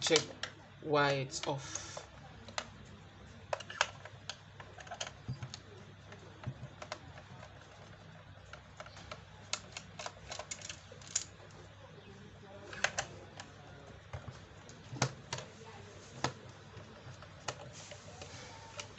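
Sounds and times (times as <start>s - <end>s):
faint steady low hum: 0.0s - 18.9s.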